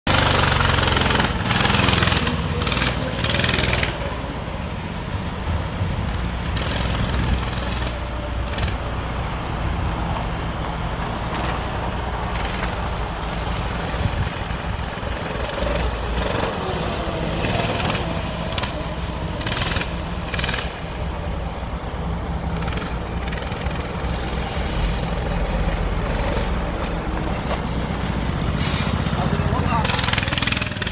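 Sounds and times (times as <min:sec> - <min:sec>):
go-kart engine running: 0:00.0 - 0:30.9.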